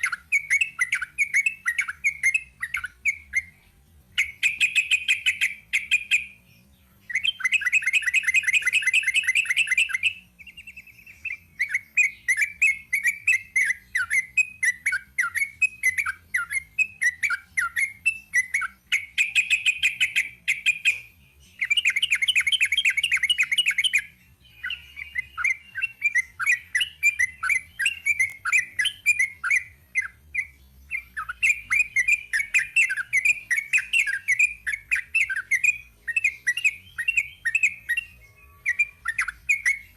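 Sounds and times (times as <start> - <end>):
bulbul singing rapid chirps: 0.0 - 39.9.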